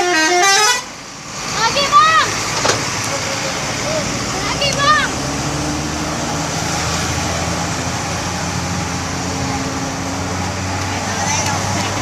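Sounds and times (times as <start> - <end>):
road traffic: 0.0 - 12.0
vehicle engine humming: 0.0 - 12.0.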